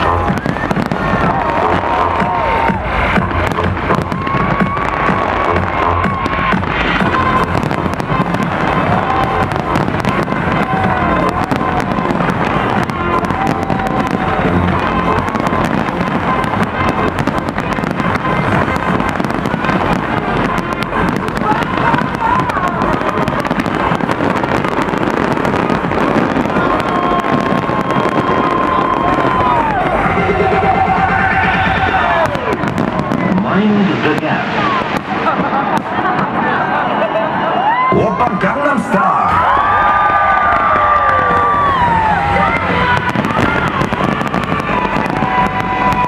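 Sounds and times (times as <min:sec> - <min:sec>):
fireworks bursting and crackling: 0:00.0 - 0:46.0
music playing: 0:00.0 - 0:46.0.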